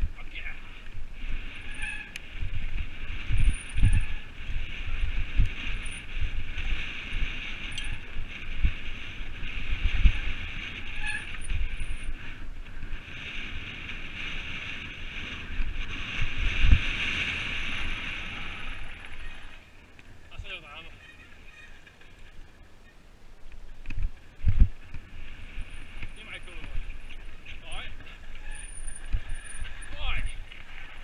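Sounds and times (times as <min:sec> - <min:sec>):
bike tyres and rushing air: 0:00.0 - 0:31.0.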